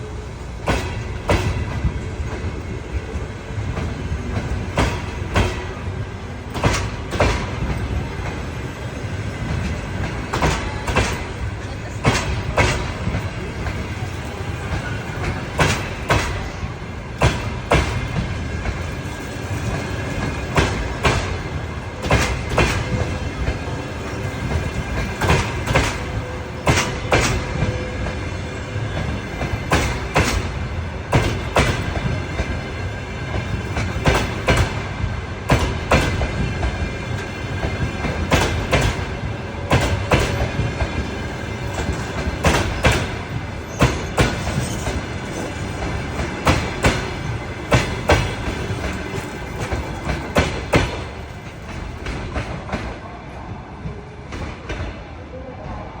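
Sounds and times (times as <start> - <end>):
train wheels clicking on rail joints: 0.0 - 53.0, 53.8 - 55.1
low train rumble: 0.0 - 56.0.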